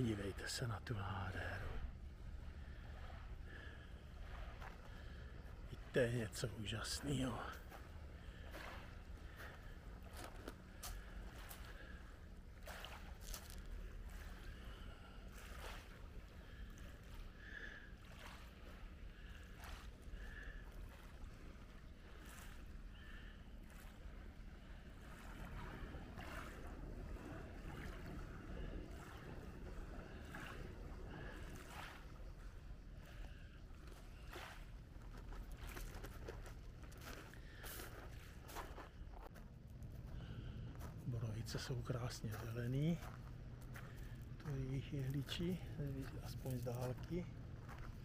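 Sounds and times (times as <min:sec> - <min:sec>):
boat motors rumbling: 0:00.0 - 0:48.0.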